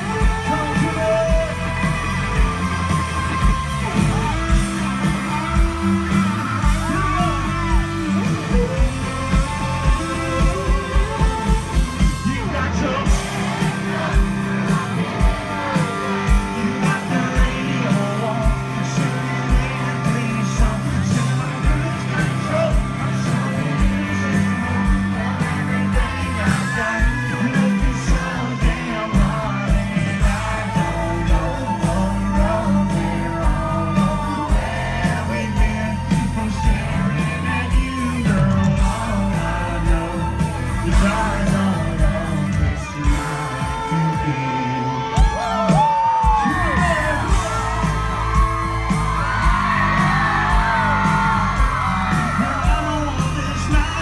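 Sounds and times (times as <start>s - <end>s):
man singing into microphone: 0.0s - 2.8s, 6.8s - 47.8s, 49.3s - 54.0s
live country band playing: 0.0s - 54.0s.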